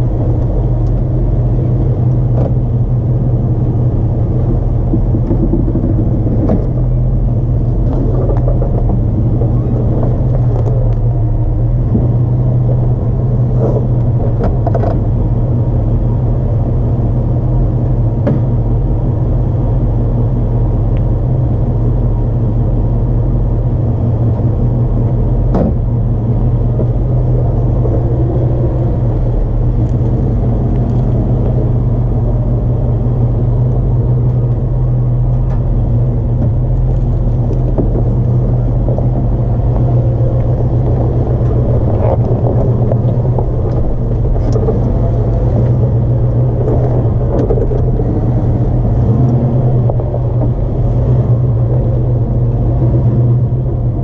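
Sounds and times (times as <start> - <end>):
engine droning at low speed: 0.0 - 54.0.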